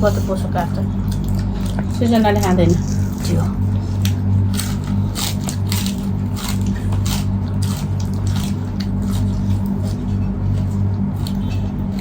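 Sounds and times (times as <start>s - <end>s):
steady low hum: 0.0s - 12.0s
chewing and wet squishes: 0.1s - 12.0s.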